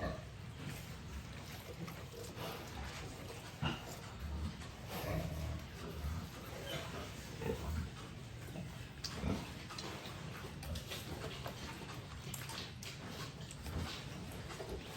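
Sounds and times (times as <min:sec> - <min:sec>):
pig grunts: 0:00.0 - 0:14.9.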